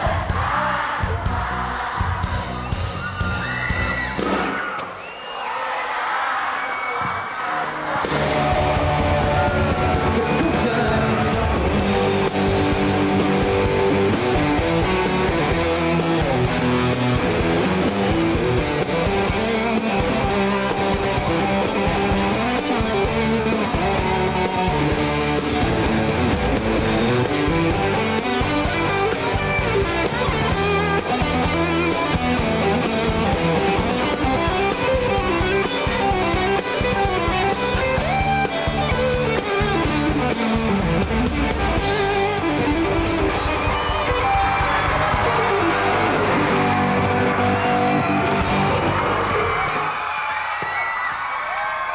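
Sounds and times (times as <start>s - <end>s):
rock band music: 0.0s - 5.0s, 6.6s - 50.7s
electric guitar: 7.9s - 50.1s.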